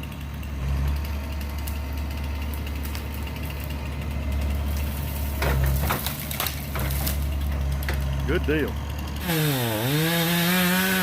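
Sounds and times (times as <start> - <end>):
excavator engine droning: 0.0 - 11.0
sharp cracks: 1.0 - 10.0.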